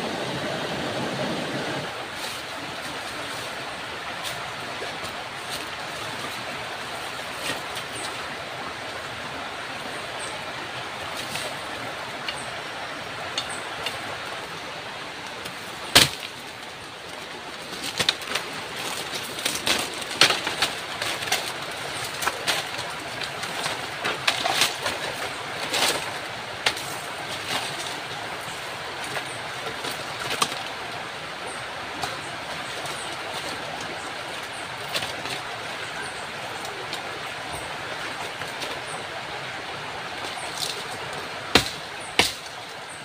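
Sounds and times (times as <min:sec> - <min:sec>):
leaves rustling: 0:00.0 - 0:43.0
river rushing: 0:00.0 - 0:43.0.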